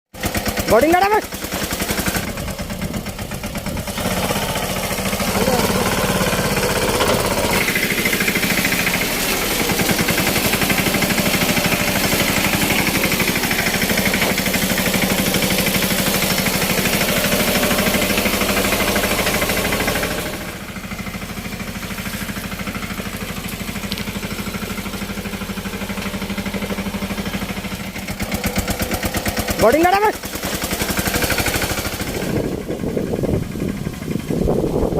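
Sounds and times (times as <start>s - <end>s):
mini tractor engine knocking: 0.1s - 34.9s.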